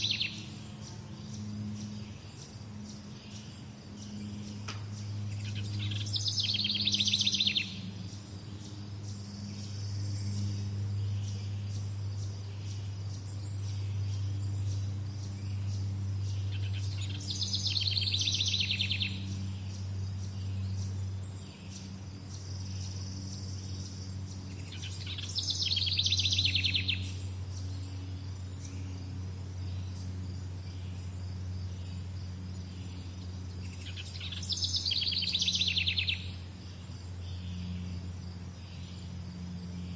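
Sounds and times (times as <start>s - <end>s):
songbird trilling: 0.0s - 39.8s
low hum: 0.0s - 39.9s.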